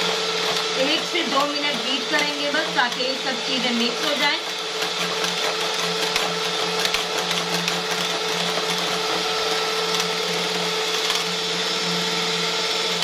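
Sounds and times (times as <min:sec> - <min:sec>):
electric hand mixer whipping batter: 0:00.0 - 0:13.0.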